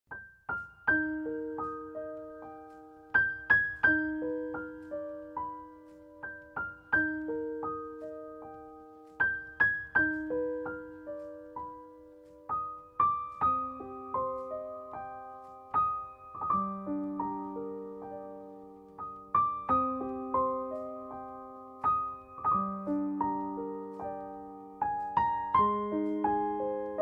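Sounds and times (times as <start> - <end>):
gentle piano melody: 0.1 - 27.0.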